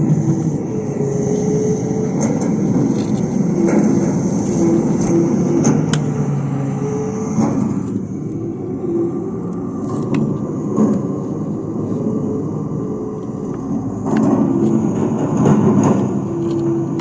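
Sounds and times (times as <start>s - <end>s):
toy machinery whirring: 0.0s - 12.5s, 13.2s - 17.0s.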